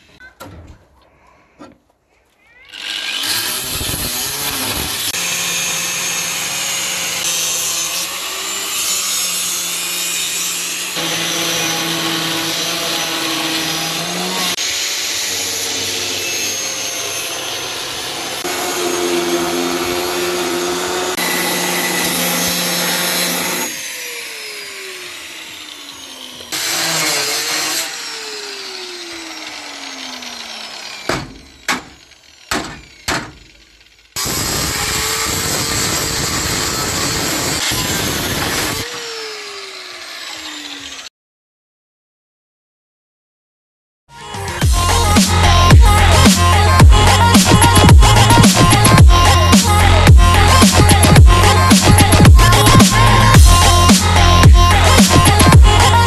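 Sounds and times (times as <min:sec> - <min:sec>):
angle grinder cutting metal: 0:02.6 - 0:41.1, 0:44.3 - 0:56.0.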